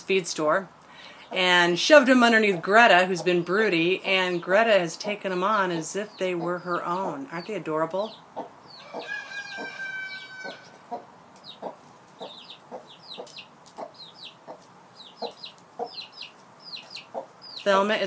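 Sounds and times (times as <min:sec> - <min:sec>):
chicks peeping: 0:01.0 - 0:18.0
hen clucking: 0:01.1 - 0:18.0.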